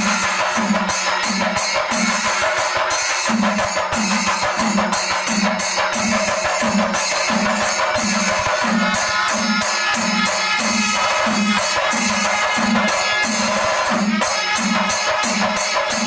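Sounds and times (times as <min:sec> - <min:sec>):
brass hand cymbals clashing: 0:00.0 - 0:16.0
ensemble of drums beaten with sticks: 0:00.0 - 0:16.0.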